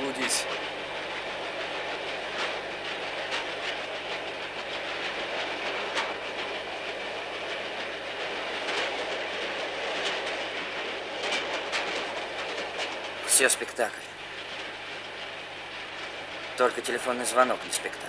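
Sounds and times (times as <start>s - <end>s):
vehicle rolling noise: 0.0s - 18.0s.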